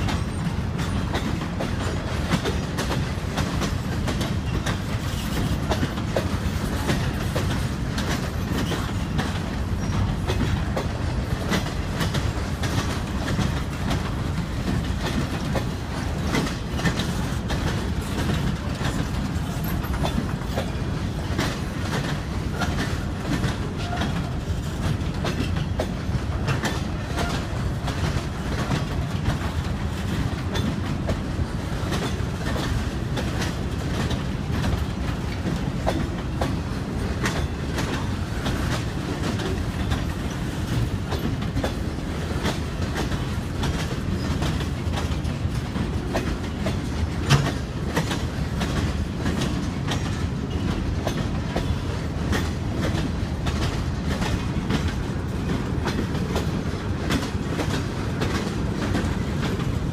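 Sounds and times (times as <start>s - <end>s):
loud train clank: 0.0s - 59.9s
train wheels rumbling on rail: 0.0s - 59.9s
wheels clicking over rail joints: 0.0s - 59.9s.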